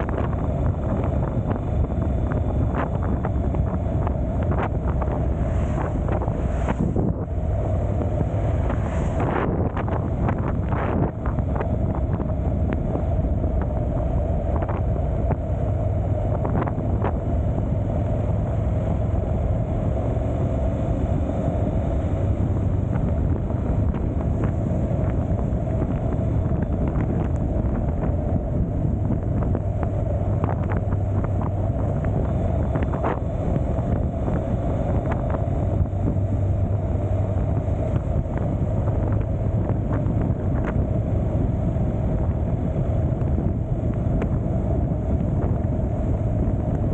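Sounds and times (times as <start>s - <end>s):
motorcycle engine droning: 0.0s - 46.9s
wind buffeting microphone: 0.0s - 46.9s.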